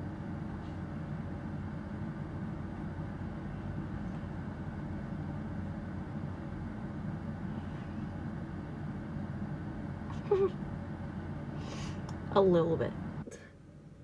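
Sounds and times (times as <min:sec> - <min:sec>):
bus engine drone inside cabin: 0:00.0 - 0:13.4.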